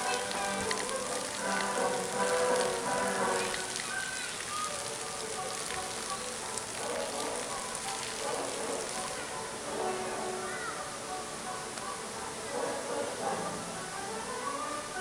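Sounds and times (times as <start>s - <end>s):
faint indistinct voices: 0.0s - 15.0s
faint music: 0.0s - 15.0s
steady hiss with ticks: 0.0s - 15.0s.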